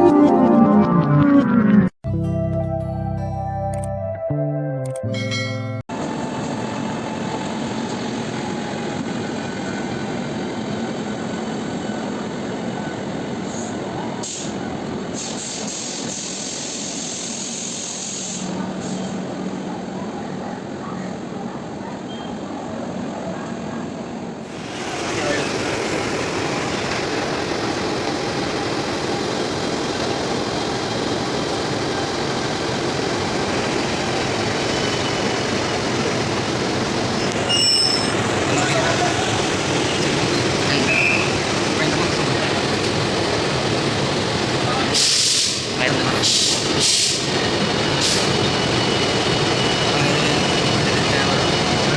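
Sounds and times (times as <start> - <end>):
train rumbling: 5.9 - 51.9.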